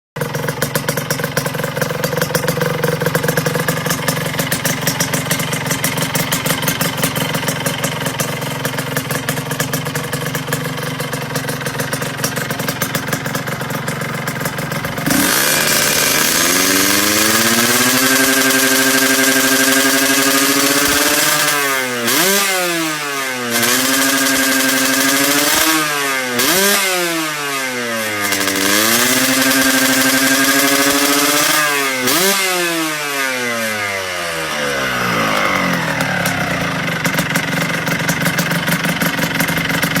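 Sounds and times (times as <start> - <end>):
motorcycle engine idling and revving: 0.1 - 40.0.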